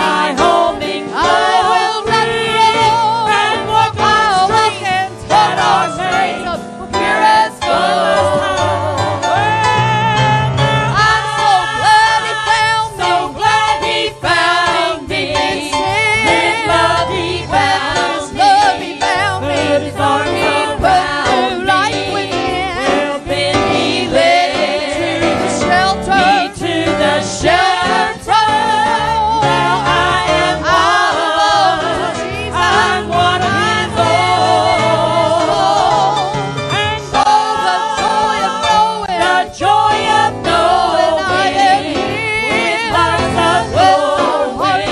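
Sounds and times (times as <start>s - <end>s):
gospel singing by several voices: 0.0s - 44.9s
instrumental accompaniment with bass: 0.0s - 44.9s.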